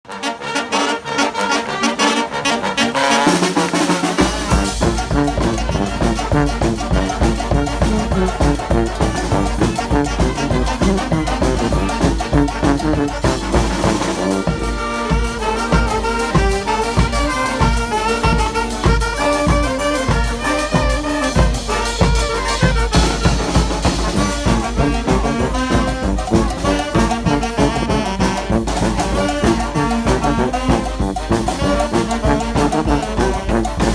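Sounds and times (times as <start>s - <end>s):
brass band playing: 0.0s - 33.9s
low bass brass: 0.0s - 33.9s.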